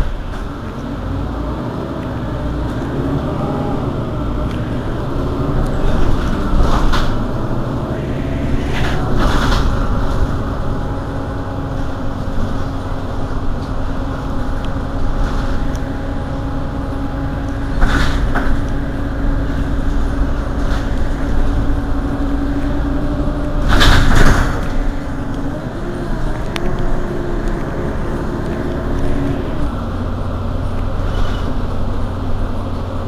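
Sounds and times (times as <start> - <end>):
bus engine idling: 0.0 - 33.0.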